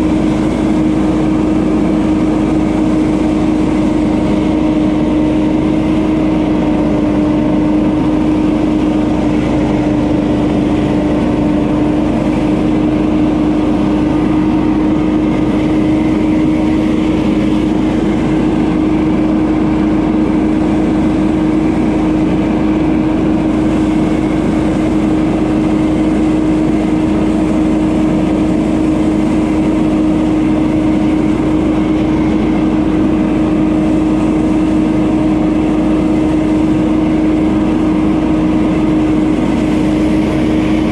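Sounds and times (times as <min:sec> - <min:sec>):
leaf blower running: 0:00.0 - 0:40.9.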